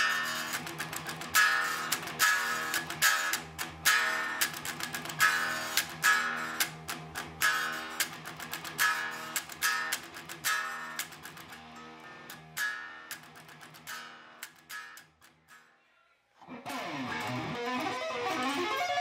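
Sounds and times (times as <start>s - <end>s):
electric guitar riffs: 0.0s - 15.1s, 16.4s - 19.0s.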